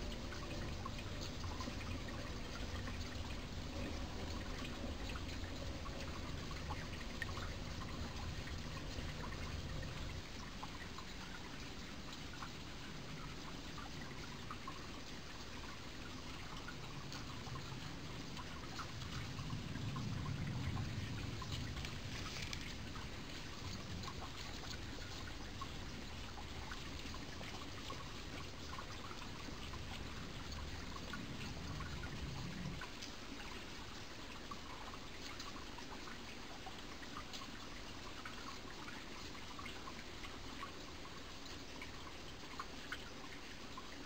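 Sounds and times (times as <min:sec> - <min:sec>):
stream water trickling: 0:00.0 - 0:44.0
water dripping and splashing: 0:00.0 - 0:44.0.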